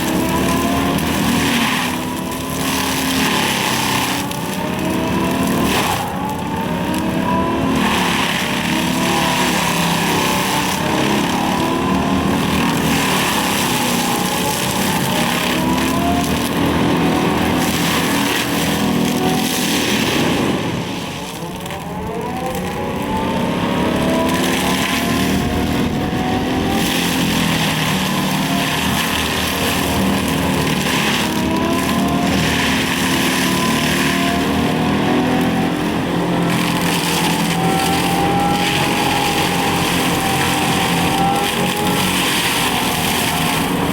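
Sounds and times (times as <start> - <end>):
excavator diesel engine running hard: 0.0 - 43.9.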